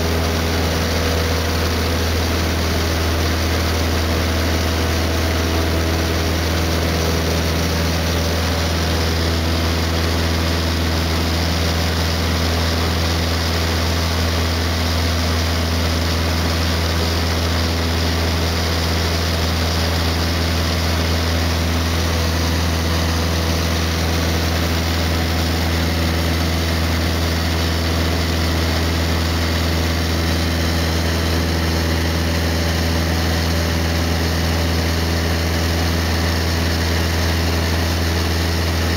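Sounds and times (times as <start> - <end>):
light aircraft engine drone in cabin: 0.0 - 38.9.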